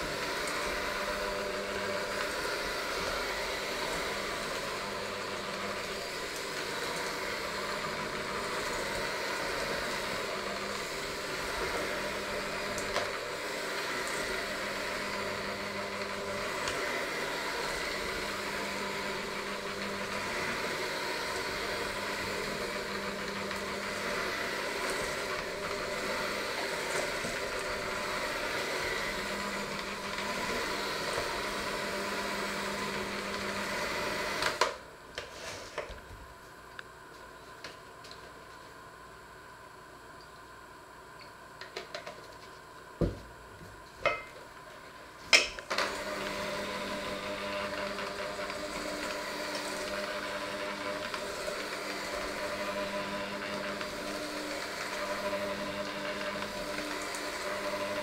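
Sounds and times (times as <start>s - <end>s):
electric hand mixer running: 0.0s - 35.2s, 41.6s - 58.0s.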